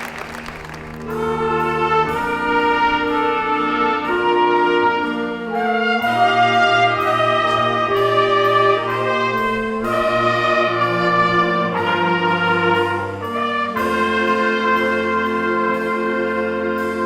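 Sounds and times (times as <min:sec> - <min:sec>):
brass ensemble playing chords: 0:00.0 - 0:17.0.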